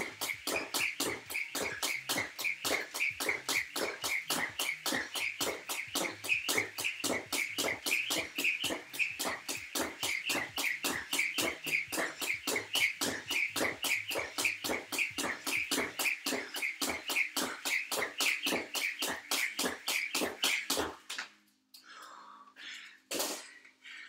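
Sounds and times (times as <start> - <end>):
feet landing: 0.0 - 21.3
jump rope whirring and ticking: 0.0 - 21.3.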